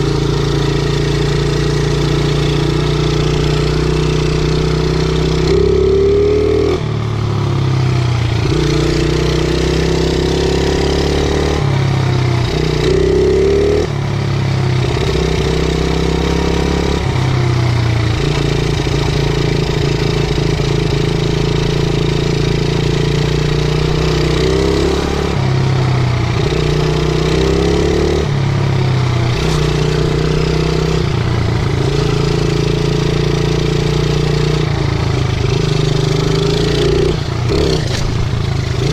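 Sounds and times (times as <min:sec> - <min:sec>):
small motorbike engine revving: 0:00.0 - 0:06.9, 0:08.2 - 0:13.9, 0:18.1 - 0:38.9.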